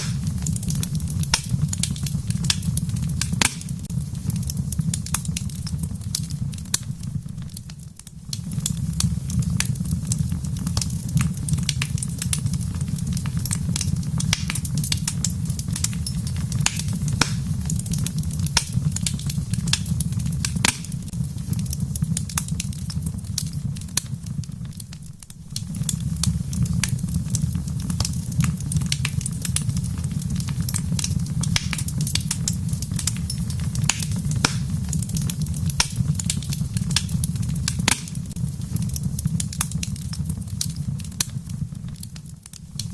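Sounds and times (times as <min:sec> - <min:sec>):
sharp pops of fire: 0:00.0 - 0:42.9
wood fire crackling: 0:00.0 - 0:42.9.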